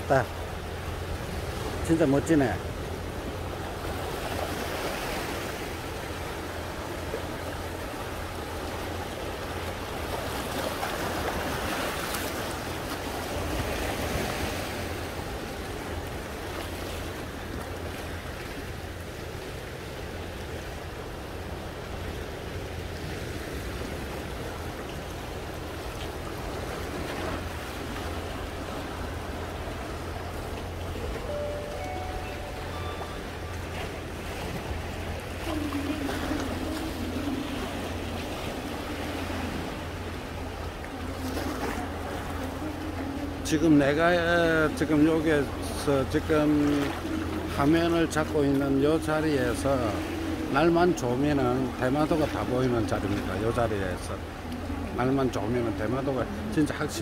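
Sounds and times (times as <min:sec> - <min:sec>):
waves breaking over rocks: 0:00.0 - 0:57.0.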